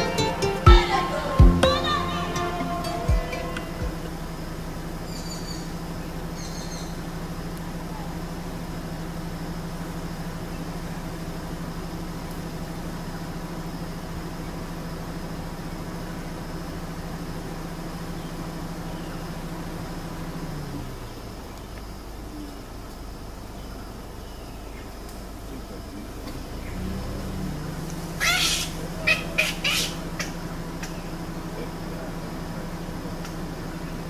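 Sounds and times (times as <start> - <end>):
faint high whine: 0.0 - 34.0
vehicle engine humming: 0.0 - 34.0.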